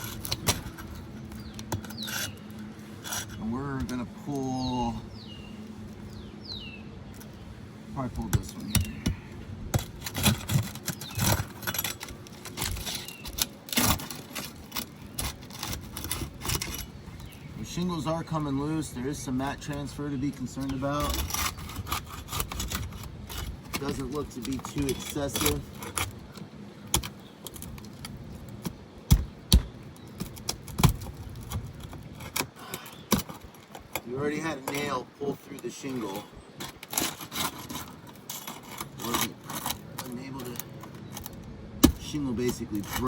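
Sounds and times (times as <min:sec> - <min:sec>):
pry bar scraping shingles: 0:00.0 - 0:05.0, 0:08.0 - 0:43.0.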